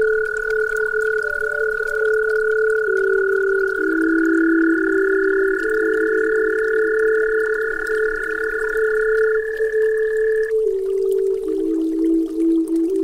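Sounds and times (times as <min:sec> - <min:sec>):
electronic tone drone: 0:00.0 - 0:13.0.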